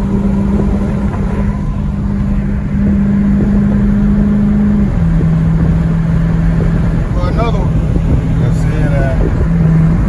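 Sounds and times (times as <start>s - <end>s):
car exhaust rumbling: 0.0s - 10.0s.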